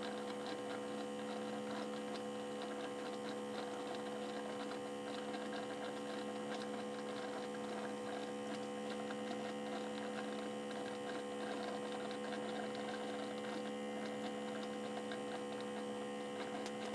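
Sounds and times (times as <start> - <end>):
espresso machine humming: 0.0 - 16.9.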